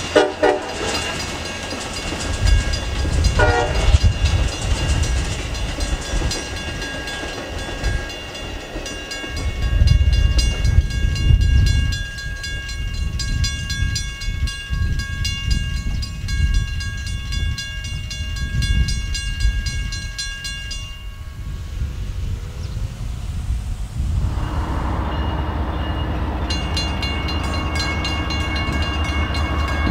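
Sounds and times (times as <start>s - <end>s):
railroad crossing bell ringing: 0.0s - 21.8s, 24.2s - 29.9s
train rumbling past: 0.0s - 29.9s.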